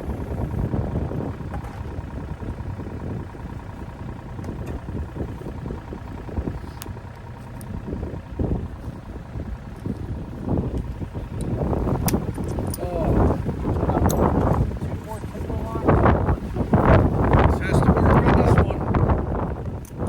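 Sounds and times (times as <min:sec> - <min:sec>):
gusty rumble: 0:00.0 - 0:20.0
work machine engine running: 0:00.0 - 0:20.0.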